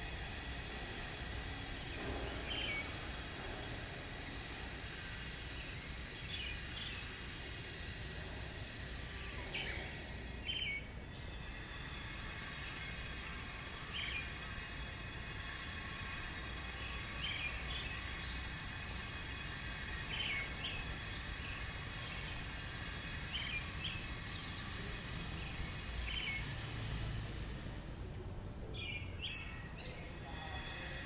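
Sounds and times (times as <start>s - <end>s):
outdoor hum and hiss: 0.0s - 31.0s.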